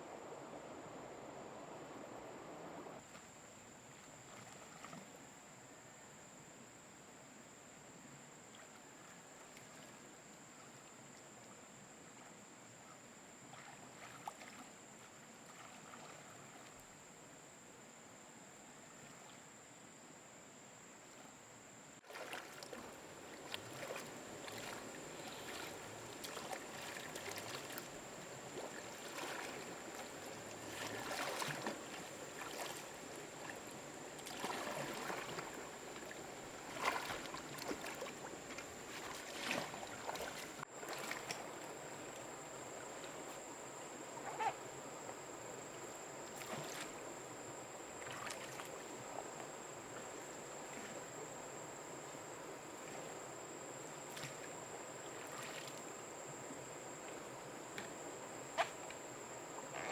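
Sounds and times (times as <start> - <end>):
water splashing and lapping: 0.0 - 5.3, 8.4 - 12.4, 13.4 - 17.0, 22.0 - 59.9.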